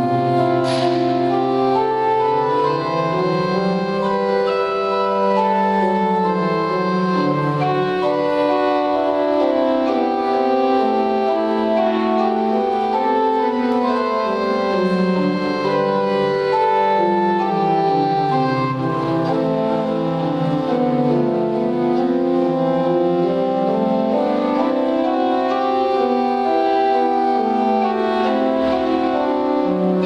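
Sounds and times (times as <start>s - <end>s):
pipe organ playing: 0.0s - 30.0s.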